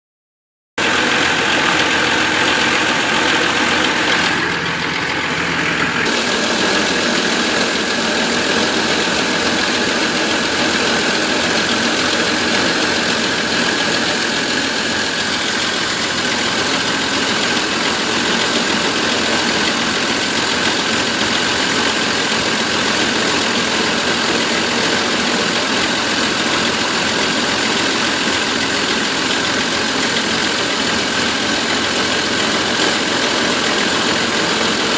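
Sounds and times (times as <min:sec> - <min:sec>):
van engine idling with misfire: 0:00.8 - 0:34.9.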